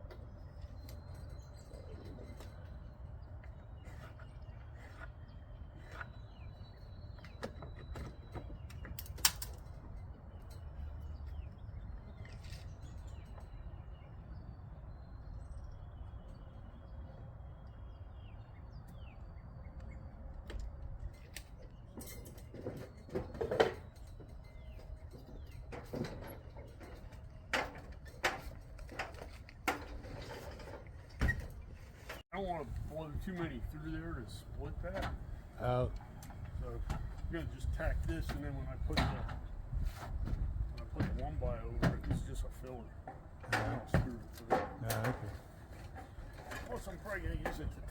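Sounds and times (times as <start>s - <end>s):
birds chirping: 0.0s - 29.3s, 29.9s - 47.9s.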